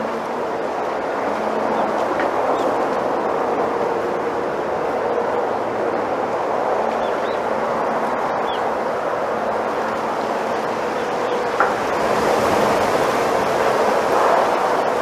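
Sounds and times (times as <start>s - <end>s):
wind rustling bamboo: 0.0s - 15.0s.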